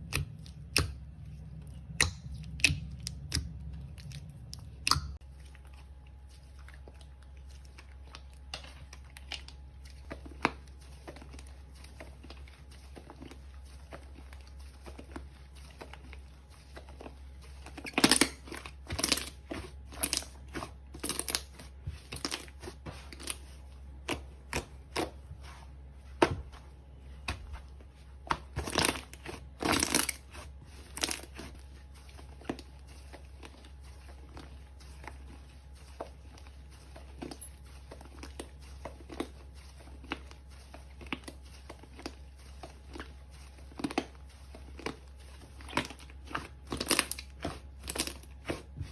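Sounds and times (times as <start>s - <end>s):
slime crackling and squishing: 0.0s - 48.9s.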